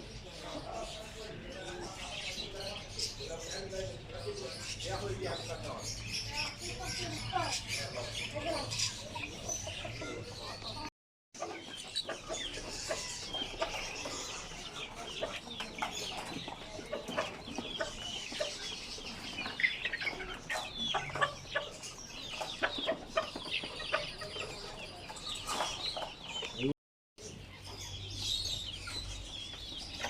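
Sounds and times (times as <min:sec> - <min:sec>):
chickens clucking: 0:00.0 - 0:30.0
small birds chirping: 0:00.0 - 0:30.0.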